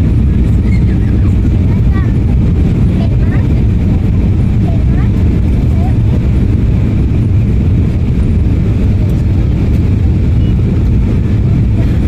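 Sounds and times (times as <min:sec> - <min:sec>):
jet airliner cabin rumble: 0:00.0 - 0:12.0.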